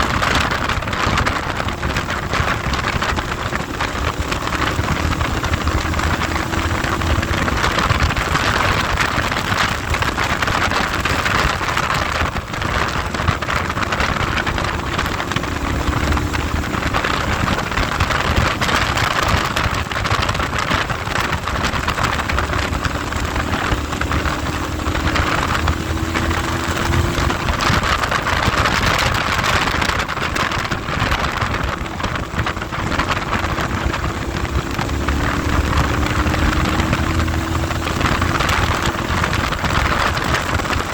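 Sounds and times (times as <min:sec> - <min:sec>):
faint motorcycle engine: 0:00.0 - 0:40.9
wind rushing over microphone: 0:00.0 - 0:40.9.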